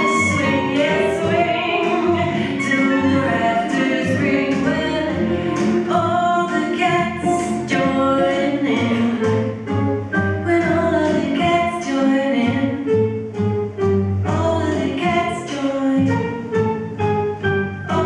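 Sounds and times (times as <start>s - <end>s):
swing song with singing: 0.0s - 13.1s, 13.9s - 18.0s.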